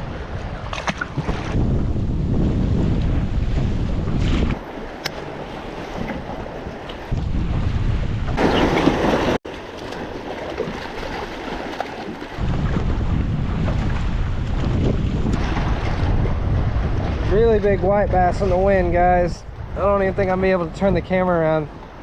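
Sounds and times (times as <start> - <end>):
wind buffeting microphone: 0.0 - 9.4, 10.0 - 22.0.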